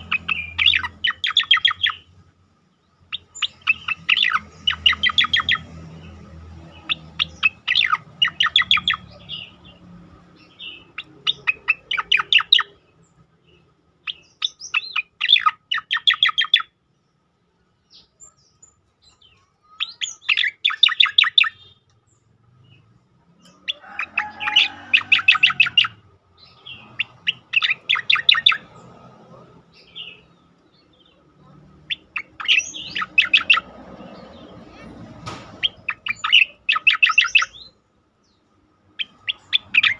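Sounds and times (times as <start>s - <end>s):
bird singing sharp repeated notes: 0.0s - 39.9s.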